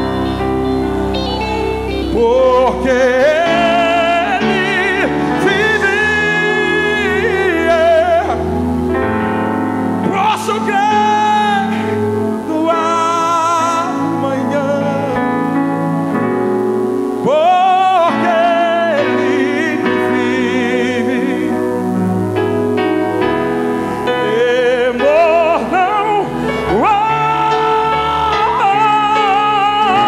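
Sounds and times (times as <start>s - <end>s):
keyboard and band accompaniment: 0.0s - 30.0s
man singing: 1.2s - 16.2s, 17.1s - 22.0s, 23.2s - 30.0s.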